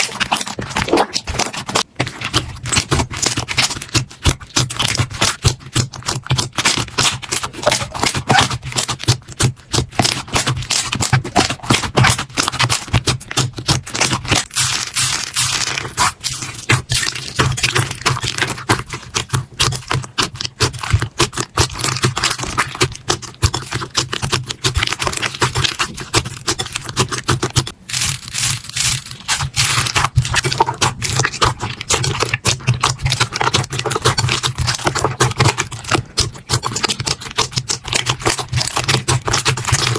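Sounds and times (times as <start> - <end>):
slime squeezed clicking and popping: 0.0 - 39.9.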